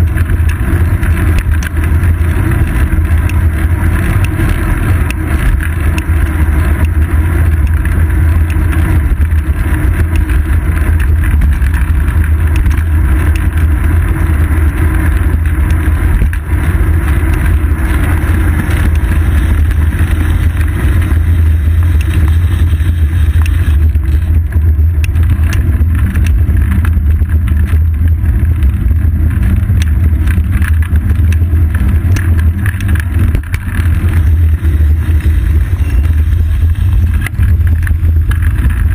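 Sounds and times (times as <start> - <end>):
small ticks and rattles: 0.0 - 38.9
wind and road rumble: 0.0 - 38.9.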